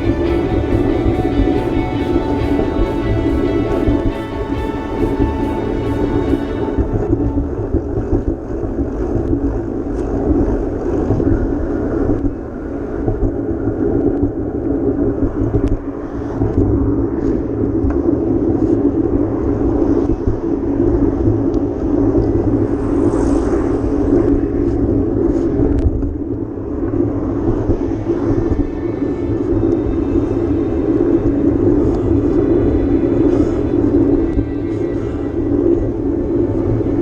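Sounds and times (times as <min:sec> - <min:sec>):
constant hum: 0:00.0 - 0:37.0.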